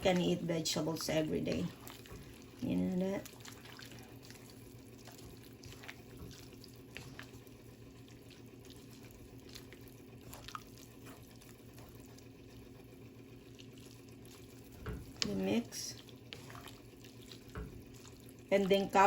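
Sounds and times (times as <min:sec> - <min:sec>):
faint liquid sounds from pot: 0:00.0 - 0:19.0
low steady hum: 0:00.0 - 0:19.0.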